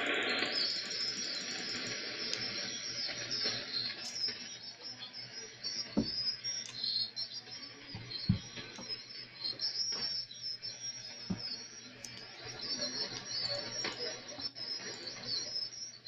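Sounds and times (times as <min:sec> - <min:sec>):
chirping high-pitched interference: 0:00.0 - 0:16.0
radio static hiss: 0:00.0 - 0:16.0.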